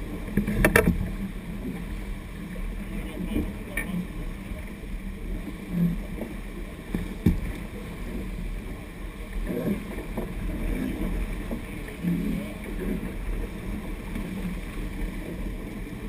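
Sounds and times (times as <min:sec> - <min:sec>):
rushing water: 0:00.0 - 0:16.0
wind rumble on microphone: 0:00.0 - 0:16.0.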